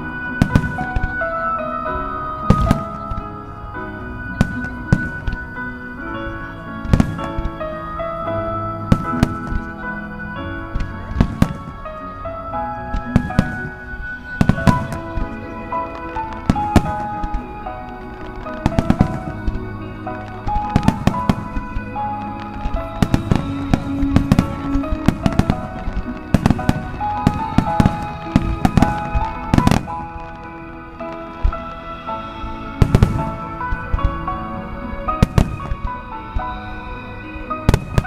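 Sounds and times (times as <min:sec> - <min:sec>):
background music with held notes: 0:00.0 - 0:38.0
fireworks bursting with sharp bangs: 0:00.0 - 0:38.0.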